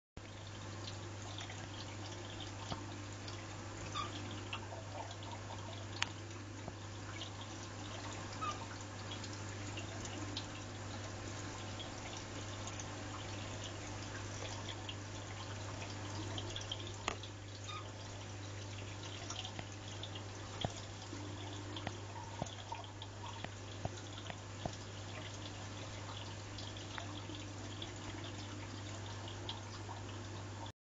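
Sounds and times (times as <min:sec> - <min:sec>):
water trickling and dripping: 0:00.2 - 0:30.7.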